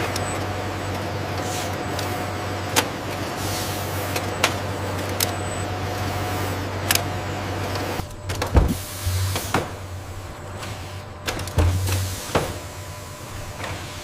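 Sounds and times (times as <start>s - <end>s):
machinery hum with hiss: 0.0s - 14.0s.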